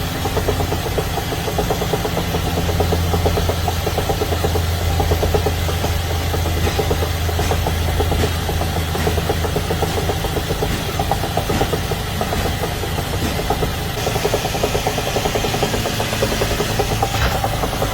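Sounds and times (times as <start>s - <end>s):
car engine idling: 0.0s - 17.9s
rapid engine ticking: 0.0s - 17.9s.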